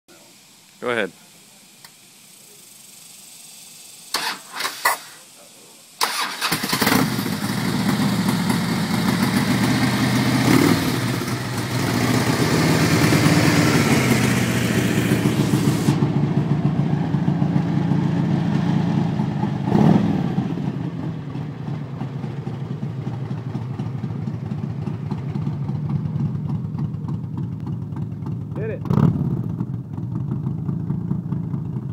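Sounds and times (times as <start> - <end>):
motorcycle engine idling and revving: 2.4 - 31.9.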